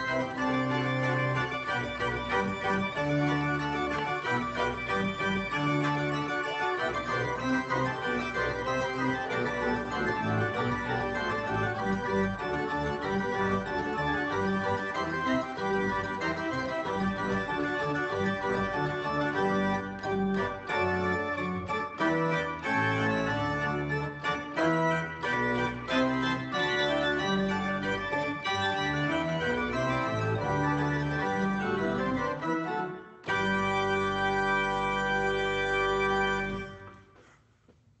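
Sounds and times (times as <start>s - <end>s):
pipe organ chords: 0.0s - 37.2s.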